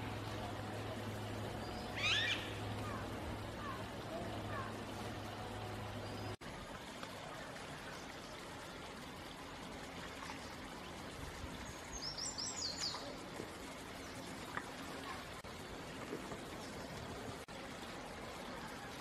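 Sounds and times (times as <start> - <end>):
trickle of running water: 0.0 - 19.0.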